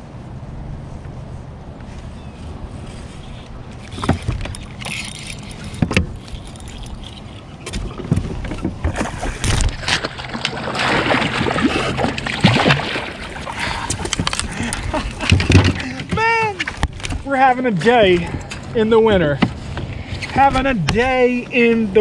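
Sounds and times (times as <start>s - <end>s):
kayak handling noise: 1.8s - 21.8s.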